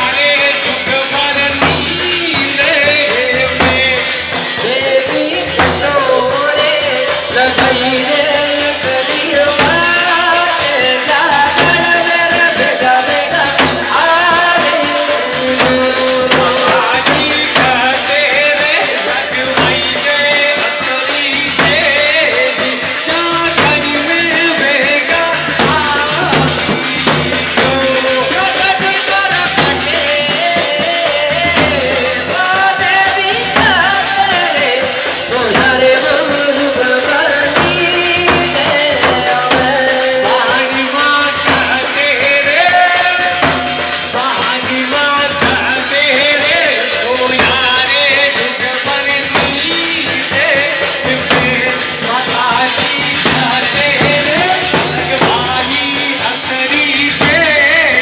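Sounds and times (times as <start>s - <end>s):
jingling rhythmic percussion: 0.0s - 58.0s.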